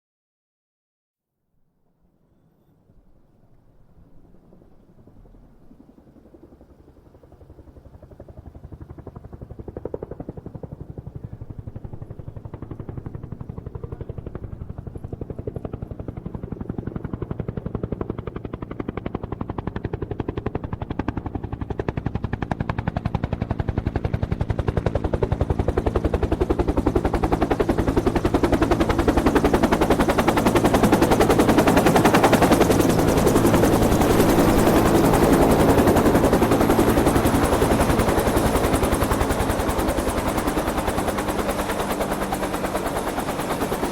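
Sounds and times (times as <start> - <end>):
helicopter rotor chop: 4.3 - 43.9.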